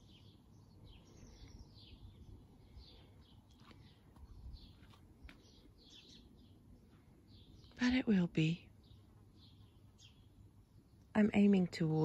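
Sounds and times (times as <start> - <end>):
faint bird chirps: 0.0 - 11.1
low steady background rumble: 0.0 - 12.0.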